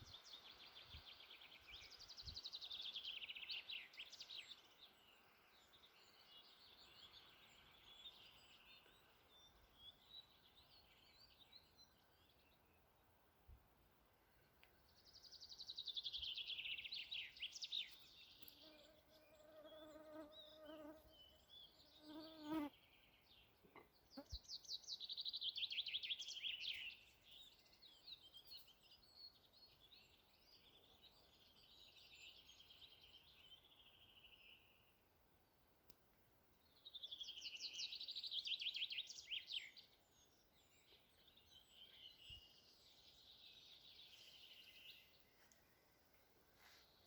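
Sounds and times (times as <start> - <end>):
faint outdoor ambience: 0.0 - 47.0.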